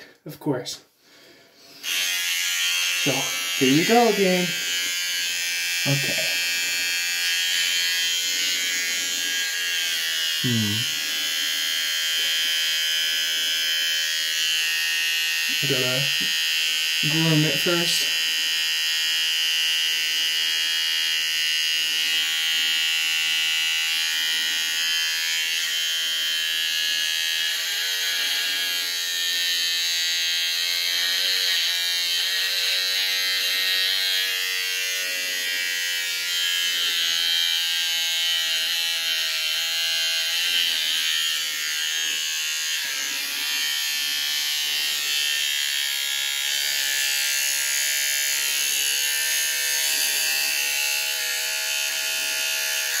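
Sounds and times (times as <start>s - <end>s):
electric beard trimmer buzzing: 1.1s - 53.0s.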